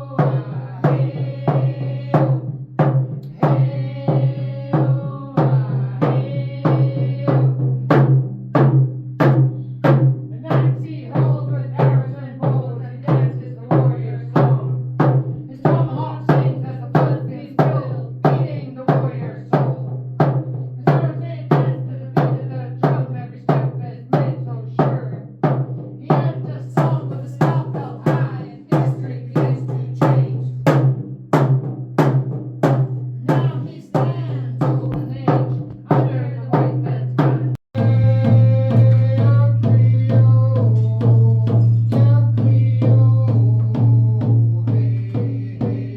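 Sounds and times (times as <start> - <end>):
hand drums beating: 0.0 - 45.9.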